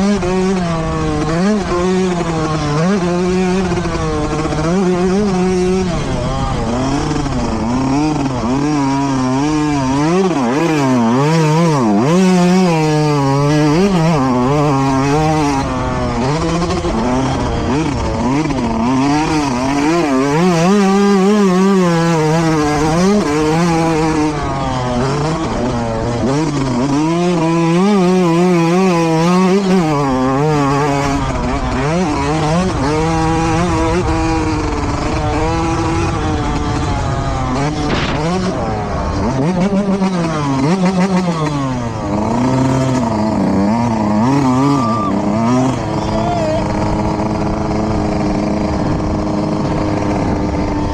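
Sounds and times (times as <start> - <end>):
motocross bike engines revving: 0.0 - 50.9.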